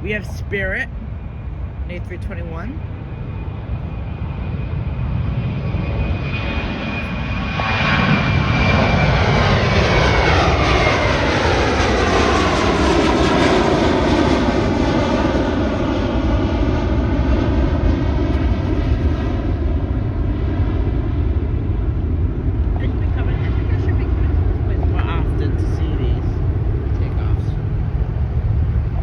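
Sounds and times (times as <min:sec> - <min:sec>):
jet engines at takeoff power: 0:00.0 - 0:29.0.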